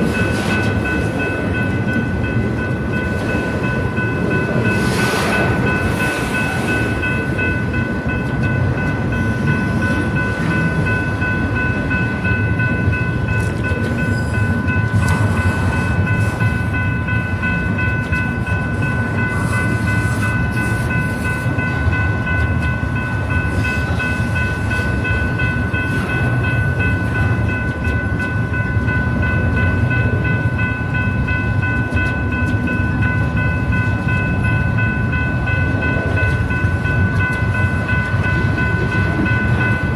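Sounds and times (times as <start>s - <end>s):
freight train rumbling on rails: 0.0s - 39.9s.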